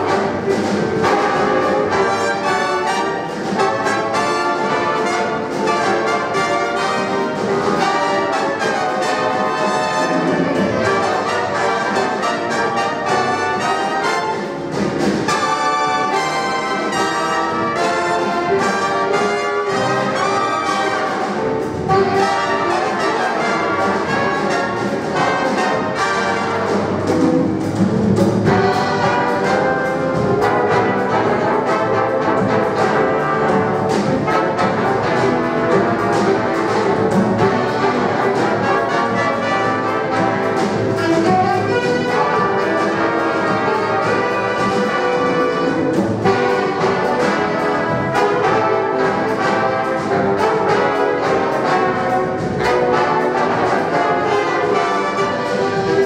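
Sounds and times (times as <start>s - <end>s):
big band playing jazz: 0.0s - 56.0s
brass section: 0.0s - 56.0s
drum kit steady beat: 0.0s - 56.0s.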